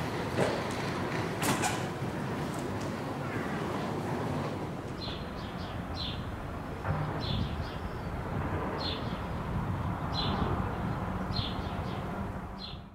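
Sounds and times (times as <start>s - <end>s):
road traffic: 0.0s - 12.9s
wind: 0.0s - 12.9s.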